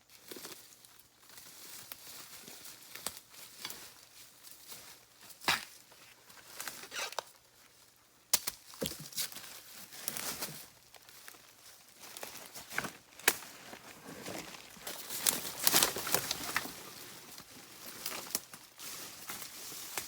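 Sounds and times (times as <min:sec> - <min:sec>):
plants and leaves rustling: 0:00.0 - 0:08.0, 0:08.6 - 0:20.0.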